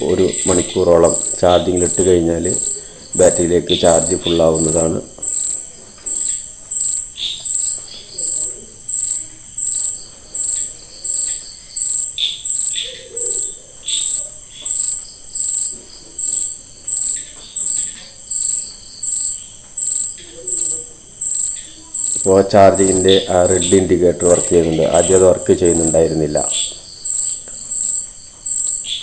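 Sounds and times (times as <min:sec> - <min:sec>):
faint bird chirps: 0:00.0 - 0:29.0
insect chirping: 0:00.0 - 0:29.0.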